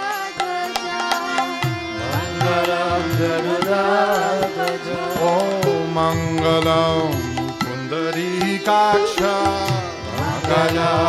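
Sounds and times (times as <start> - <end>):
harmonium notes: 0.0 - 11.0
wavering melody line: 0.4 - 11.0.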